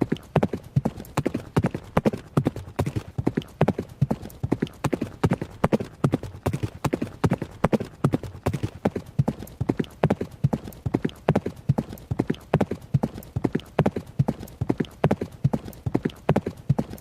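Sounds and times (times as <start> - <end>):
horse hooves galloping: 0.0 - 17.0.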